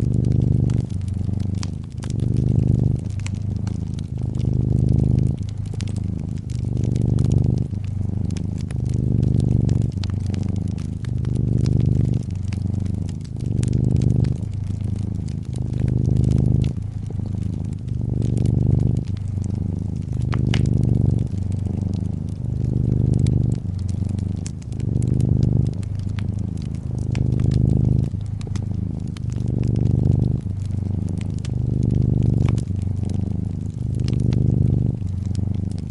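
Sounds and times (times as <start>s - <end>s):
cat purring: 0.0s - 35.9s
wood fire crackling: 0.0s - 35.9s.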